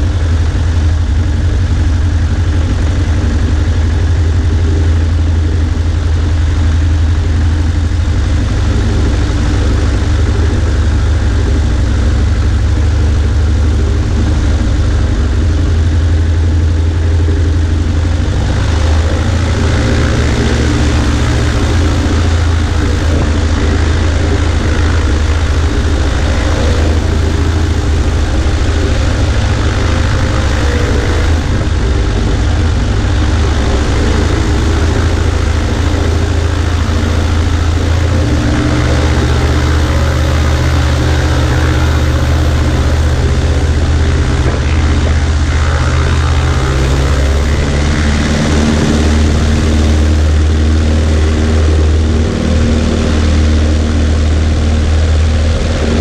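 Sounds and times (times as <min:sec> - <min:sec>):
airplane engine and propeller: 0:00.0 - 0:56.0.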